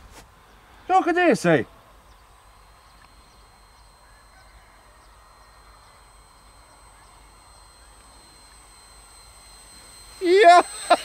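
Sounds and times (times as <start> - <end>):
model plane motor whine: 0.0 - 11.0.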